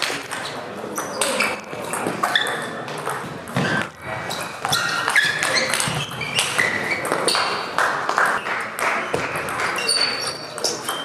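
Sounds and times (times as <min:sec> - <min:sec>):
ping-pong clicks from other tables: 0:00.0 - 0:11.0.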